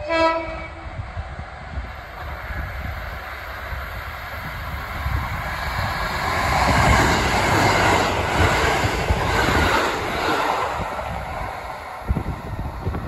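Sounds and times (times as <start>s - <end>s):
diesel train passing: 0.0s - 13.0s
train wheels on rails: 0.0s - 13.0s.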